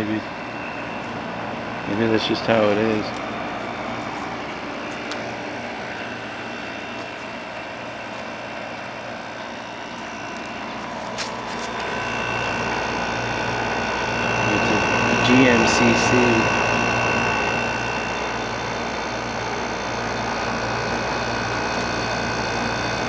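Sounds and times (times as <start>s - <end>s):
air conditioner click: 0.0s - 23.0s
air conditioner humming: 0.0s - 23.0s
high whine: 0.0s - 23.0s.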